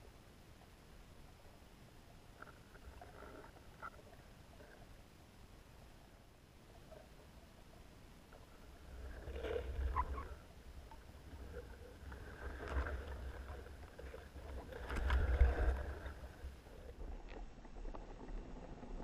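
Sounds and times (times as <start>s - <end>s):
muffled underwater rumble: 0.0s - 19.0s.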